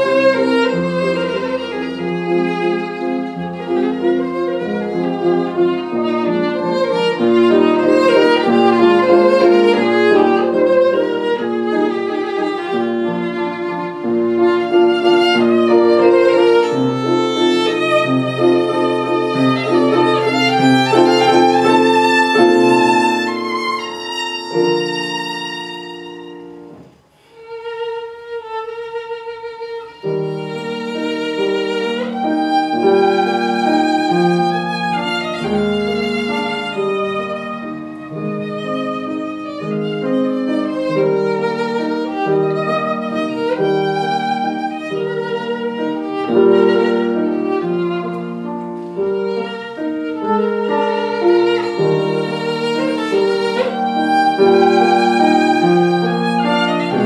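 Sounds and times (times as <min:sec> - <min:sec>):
violin melody: 0:00.0 - 0:57.0.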